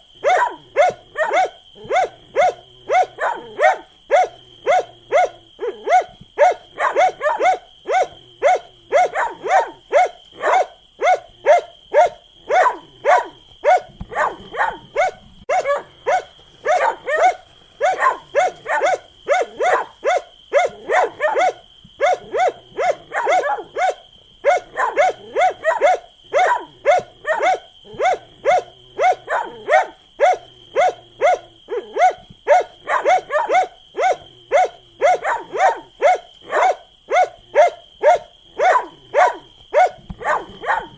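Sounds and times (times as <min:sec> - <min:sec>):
dog barking: 0:00.0 - 0:40.9.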